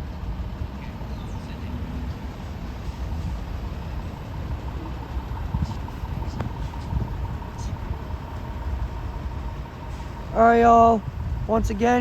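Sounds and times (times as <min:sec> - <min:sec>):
faint train squeals: 0:00.0 - 0:12.0
train rumbling: 0:00.0 - 0:12.0.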